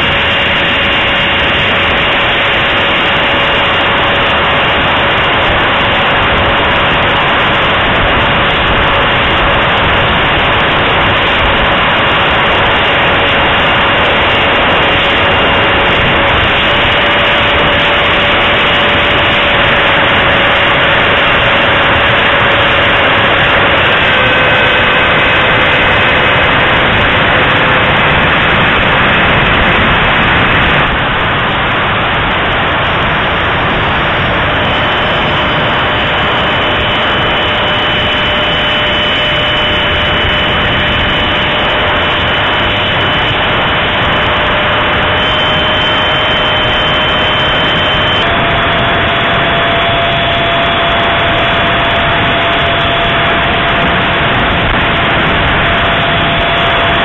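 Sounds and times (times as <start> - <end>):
electric ducted fan whine: 0.0 - 57.0
higher tone: 0.0 - 57.0
wind rushing on microphone: 0.0 - 57.0.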